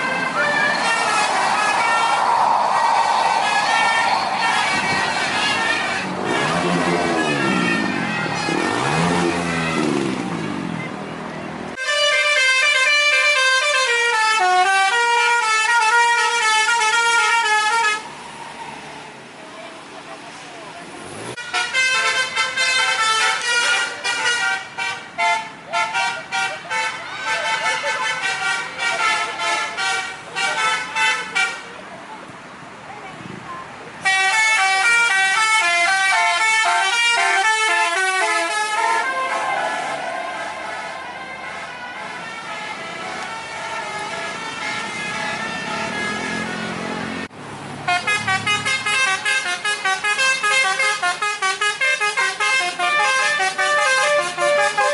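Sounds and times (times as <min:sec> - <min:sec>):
musical bus air horn tune: 0:00.0 - 0:10.0, 0:11.8 - 0:18.0, 0:21.4 - 0:31.7, 0:34.0 - 0:47.3, 0:47.9 - 0:54.9.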